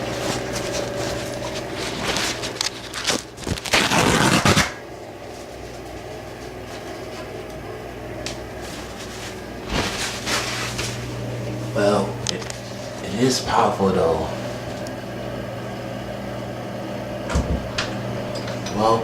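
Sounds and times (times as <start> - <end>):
exhaust fan motor hum: 0.0 - 19.0.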